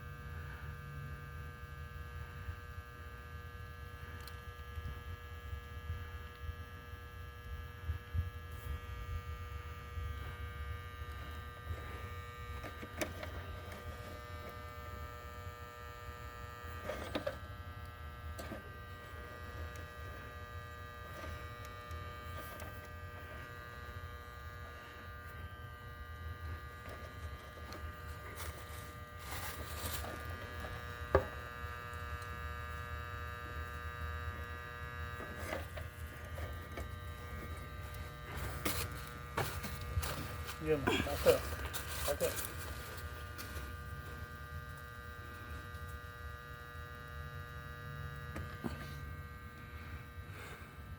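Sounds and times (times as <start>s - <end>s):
machine electrical hum: 0.0s - 50.9s.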